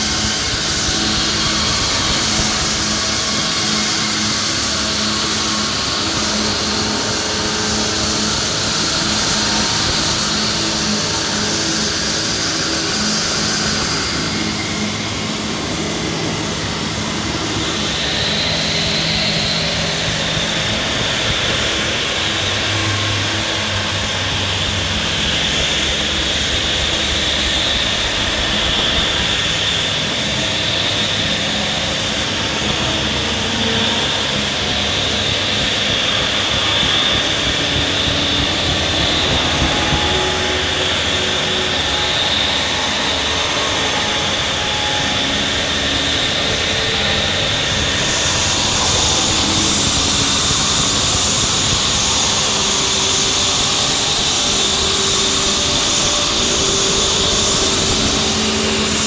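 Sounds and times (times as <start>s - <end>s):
low droning tones: 0.0s - 59.0s.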